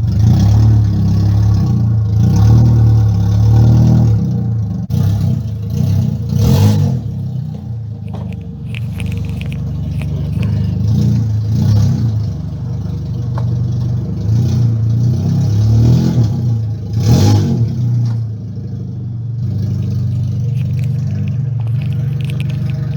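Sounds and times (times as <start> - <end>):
truck engine revving and idling: 0.0 - 22.9.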